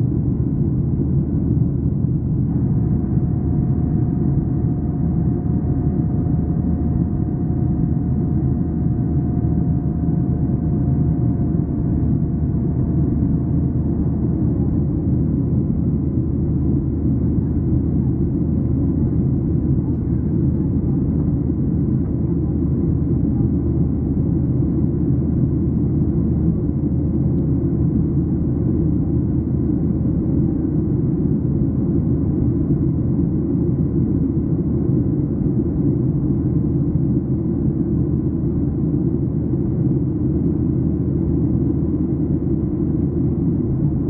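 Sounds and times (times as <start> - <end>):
faint hum tones: 0.0 - 44.0.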